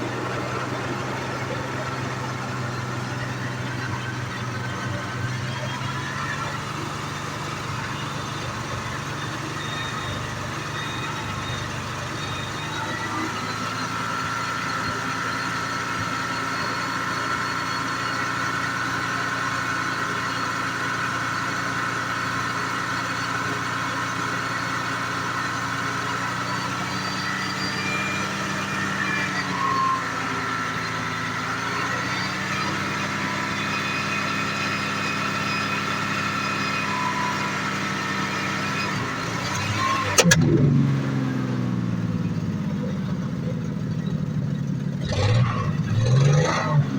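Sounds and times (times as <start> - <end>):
car engine idling: 0.0 - 33.8, 35.2 - 46.9.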